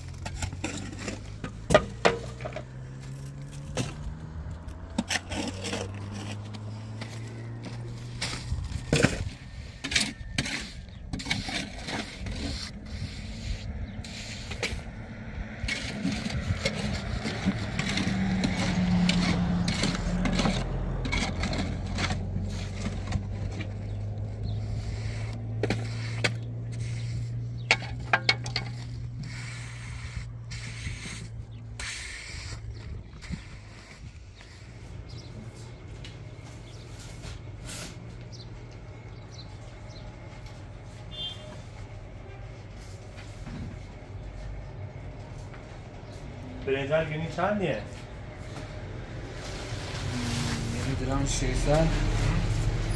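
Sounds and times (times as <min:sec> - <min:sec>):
cement scraping and knocking: 0:00.0 - 0:14.9, 0:15.7 - 0:45.7.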